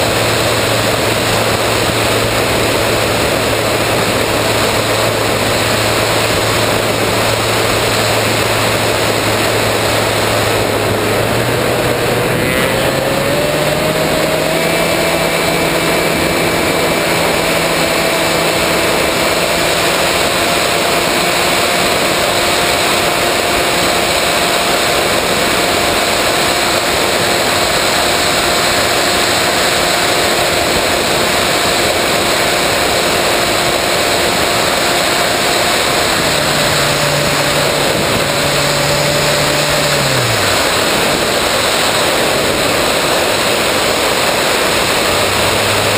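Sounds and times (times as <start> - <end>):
electric motor and propeller running: 0.0 - 45.9
wind rushing over microphone: 0.0 - 45.9.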